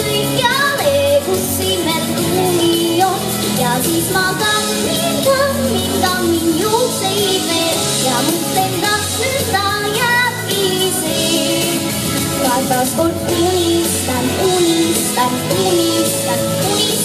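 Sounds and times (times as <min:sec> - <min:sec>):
girl singing into a microphone: 0:00.0 - 0:17.0
instrumental backing track: 0:00.0 - 0:17.0.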